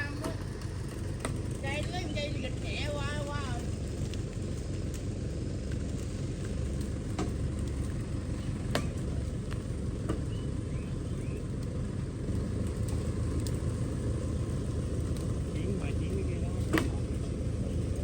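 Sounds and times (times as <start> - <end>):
engine rumbling: 0.0 - 18.0.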